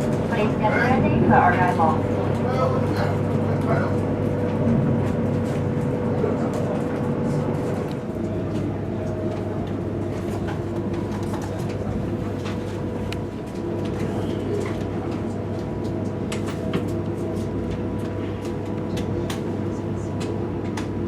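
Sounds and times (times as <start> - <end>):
faint constant hum: 0.0 - 21.0
train carriage rumble: 0.0 - 21.0.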